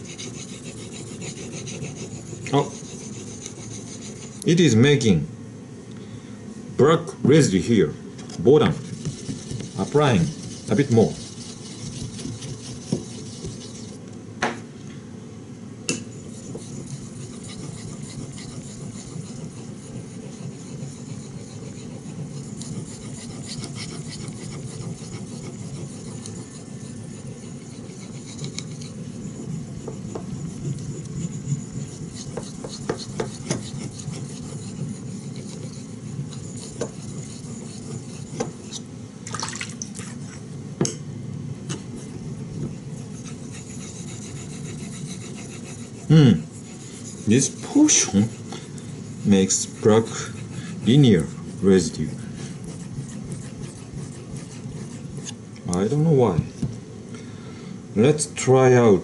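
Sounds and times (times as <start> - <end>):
knife rubbing on whetstone: 0.0 - 4.6, 8.5 - 14.0, 15.9 - 38.9, 41.7 - 56.8.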